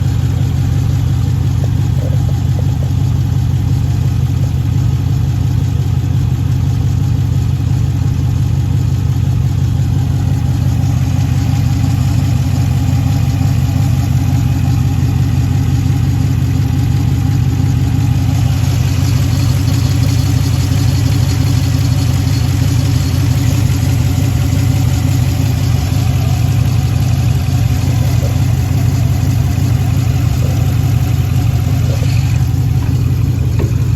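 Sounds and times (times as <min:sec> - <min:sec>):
car engine idling with misfire: 0:00.0 - 0:33.9.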